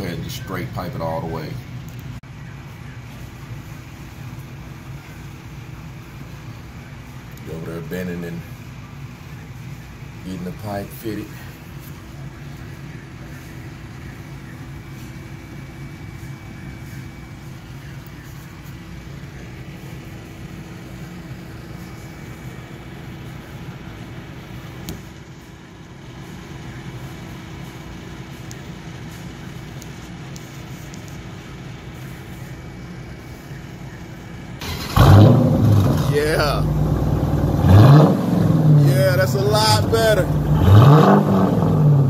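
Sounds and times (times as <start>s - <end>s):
faint whine: 0.0s - 42.0s
muffled mechanical hum: 0.0s - 42.0s.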